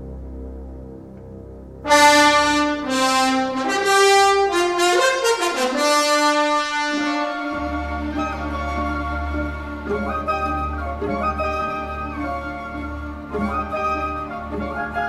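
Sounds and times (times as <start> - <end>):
low orchestral drone: 0.0 - 15.0
brass fanfare: 1.8 - 15.0.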